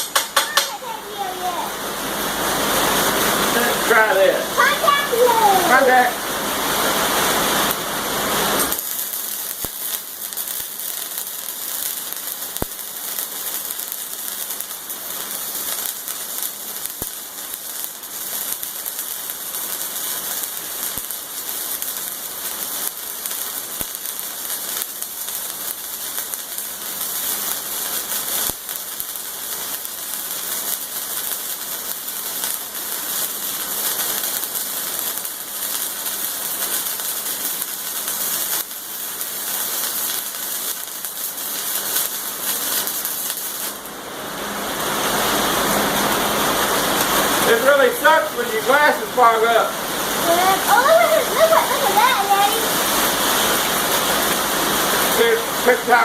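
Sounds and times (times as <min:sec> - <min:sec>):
arc welding crackling hiss: 0:00.0 - 0:56.0.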